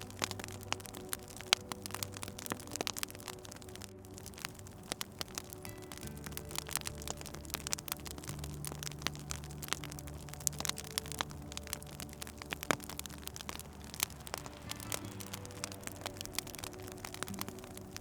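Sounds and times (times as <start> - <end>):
soft ambient music: 0.0 - 18.0
wood fire crackling and popping: 0.0 - 18.0.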